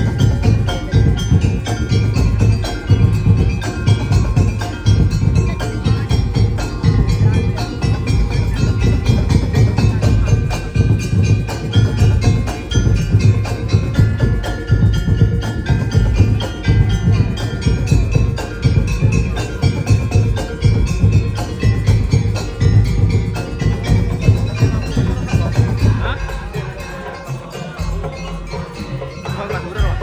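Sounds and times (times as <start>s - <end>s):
deep drum steady beat: 0.0s - 30.0s
fast strikes on tuned bars: 0.0s - 30.0s.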